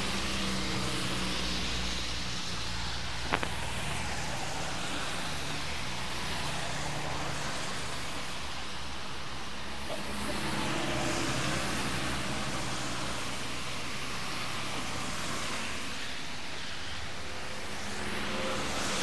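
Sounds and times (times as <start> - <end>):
engines droning: 0.0 - 19.0
tyres hissing on wet road: 0.0 - 19.0.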